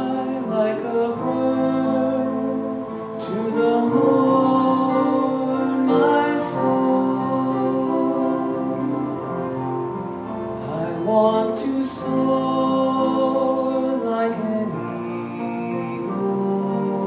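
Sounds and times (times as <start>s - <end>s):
instrumental accompaniment: 0.0s - 17.0s
man singing: 0.0s - 17.0s.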